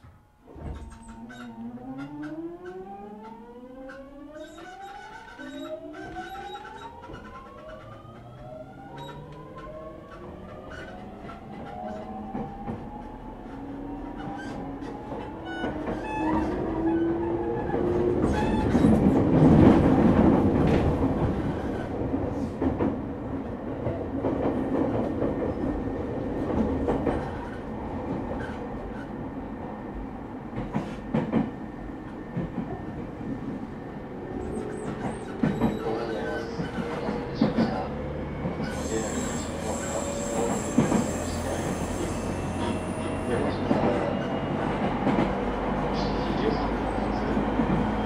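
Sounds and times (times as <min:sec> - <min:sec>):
rail joint clicks: 0:00.4 - 0:22.0, 0:23.8 - 0:29.2, 0:30.5 - 0:33.5, 0:34.3 - 0:48.0.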